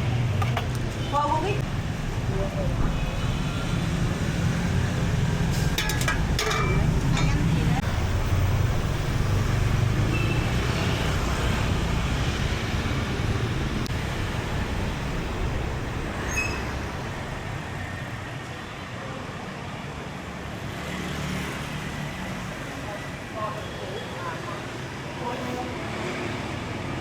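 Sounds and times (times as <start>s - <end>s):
street noise: 0.0s - 27.0s.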